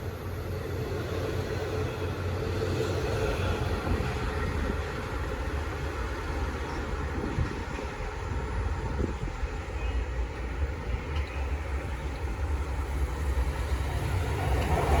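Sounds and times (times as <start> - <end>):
passenger train rumbling past: 0.0 - 15.0.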